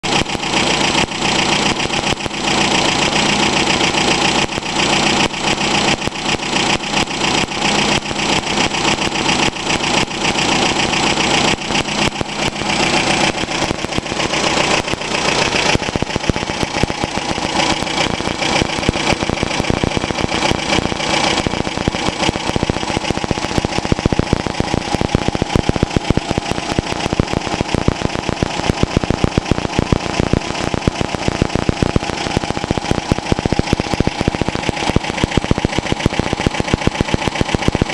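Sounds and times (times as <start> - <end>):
car engine running: 0.0 - 37.9.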